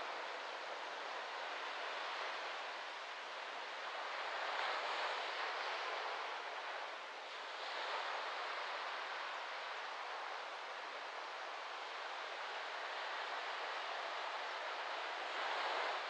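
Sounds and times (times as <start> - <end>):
small waves lapping on sand: 0.0 - 16.0
wind rustling palm fronds: 0.0 - 16.0.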